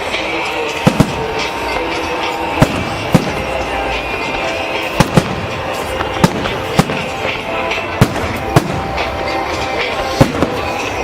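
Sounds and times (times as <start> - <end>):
distant fireworks rumble and crackle: 0.0 - 11.0
sharp firework bangs: 0.8 - 9.3, 10.1 - 11.0.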